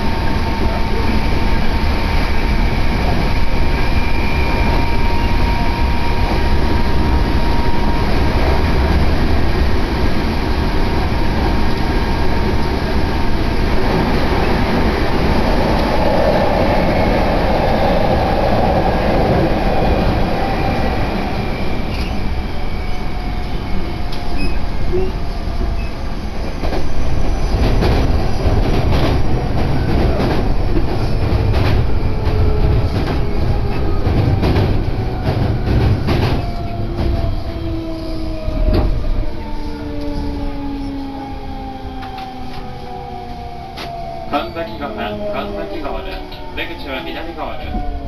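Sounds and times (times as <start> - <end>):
train rumble from inside: 0.0 - 48.0.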